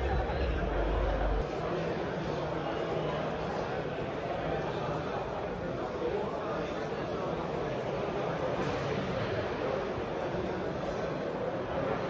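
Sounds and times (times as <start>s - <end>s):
murmur of crowd voices: 0.0s - 12.0s.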